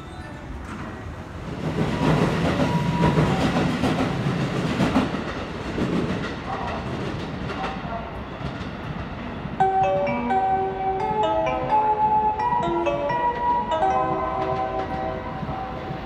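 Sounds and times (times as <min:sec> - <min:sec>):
train wheels rumbling on rail: 0:00.6 - 0:16.0.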